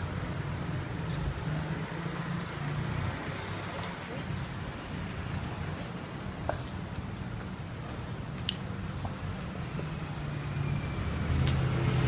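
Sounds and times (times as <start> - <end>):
street traffic rumbling: 0.0 - 12.0.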